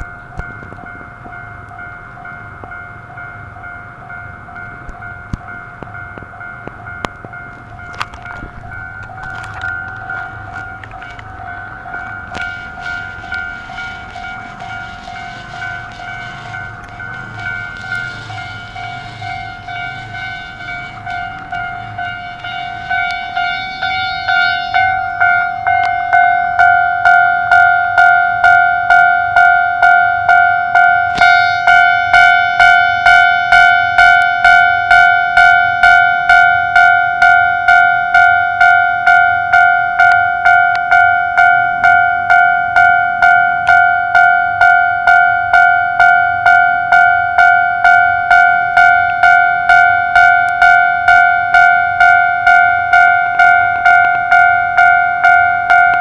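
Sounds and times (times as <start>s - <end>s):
level crossing warning bell: 0.0s - 56.0s.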